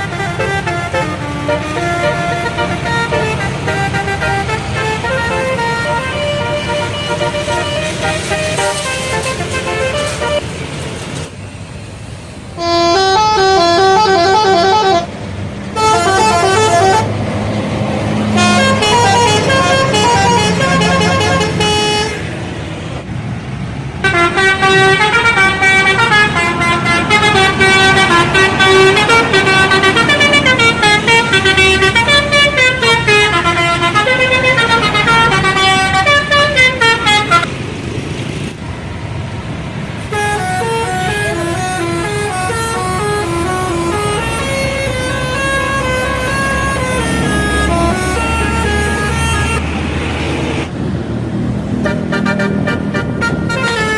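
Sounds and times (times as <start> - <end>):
bus horn playing melody: 0.0 - 10.8, 12.6 - 17.5, 18.1 - 22.3, 24.0 - 37.5, 40.0 - 49.9, 51.8 - 53.9
engine rumble: 0.0 - 53.9.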